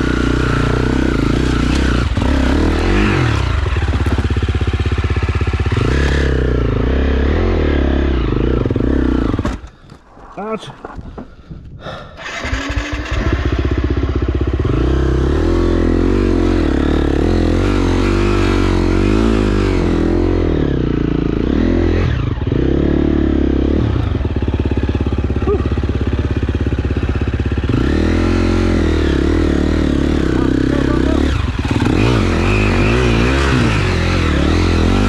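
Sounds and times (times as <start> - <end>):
dirt bike engine revving: 0.0 - 9.6, 12.2 - 35.0.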